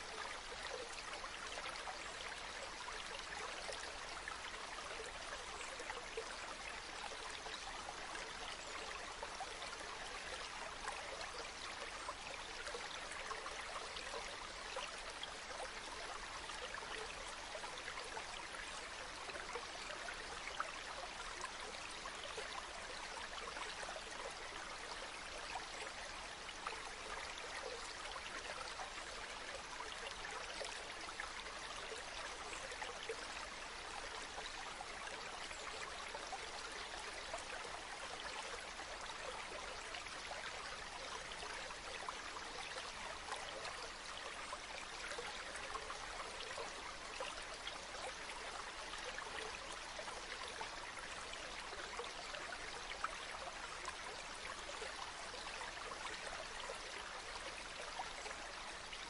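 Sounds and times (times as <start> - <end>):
river babbling: 0.0 - 59.0.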